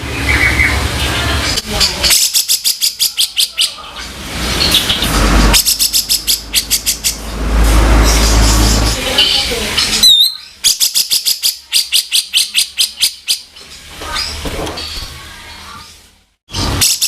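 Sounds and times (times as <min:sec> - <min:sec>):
bulbul harsh rattling calls: 0:00.2 - 0:15.0.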